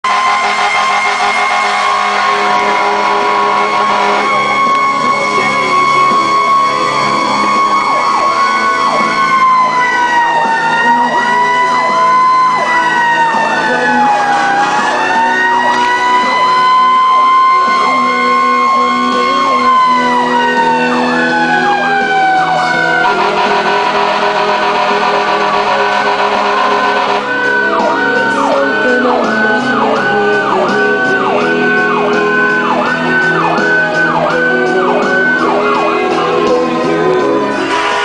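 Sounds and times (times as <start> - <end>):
mechanical siren winding down: 0.0 - 36.0
electronic siren yelping: 0.0 - 38.0.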